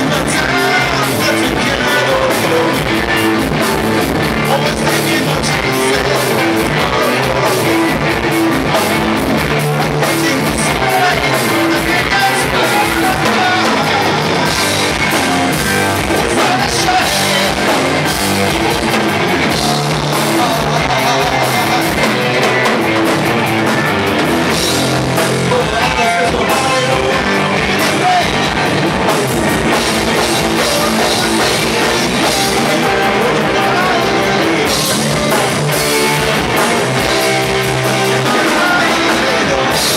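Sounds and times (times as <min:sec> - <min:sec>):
drum kit: 0:00.0 - 0:39.9
guitar: 0:00.0 - 0:39.9
rock band playing live: 0:00.0 - 0:39.9.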